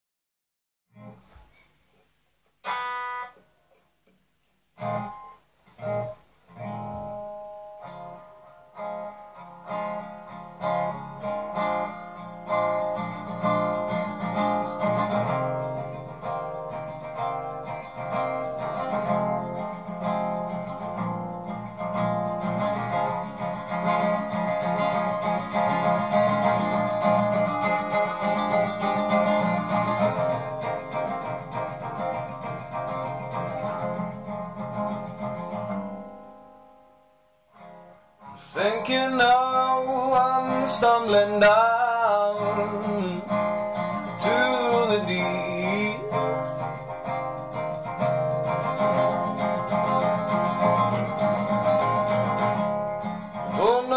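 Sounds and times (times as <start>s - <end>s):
acoustic guitar playing: 0.9s - 53.9s.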